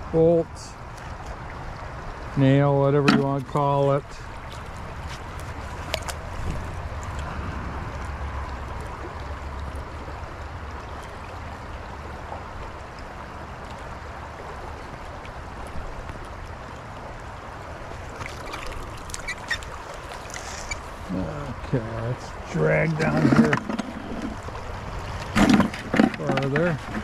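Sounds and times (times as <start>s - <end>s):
creek water running: 0.0s - 27.0s.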